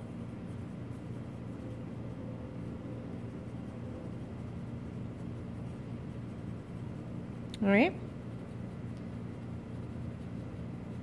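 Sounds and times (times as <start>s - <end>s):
low electrical hum: 0.0s - 11.0s
pencil scratching on paper: 0.0s - 11.0s.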